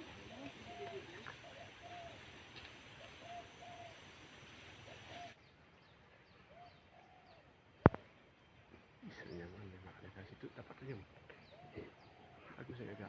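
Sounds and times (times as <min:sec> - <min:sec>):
faint cooing bird calls: 0:00.0 - 0:05.5, 0:06.1 - 0:13.0
low hiss: 0:00.0 - 0:13.0.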